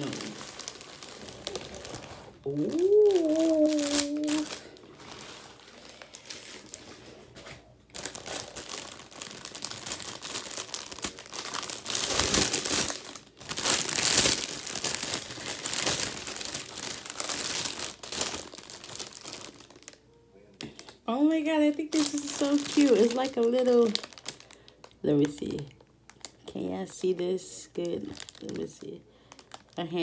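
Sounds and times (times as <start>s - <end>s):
plastic bag crinkling: 0.0s - 30.0s.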